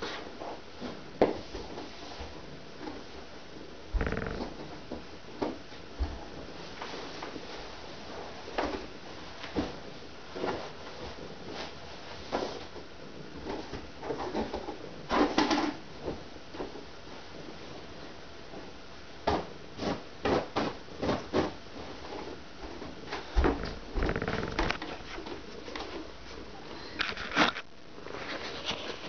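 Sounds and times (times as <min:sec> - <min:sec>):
bedding rustling: 0:04.0 - 0:29.0.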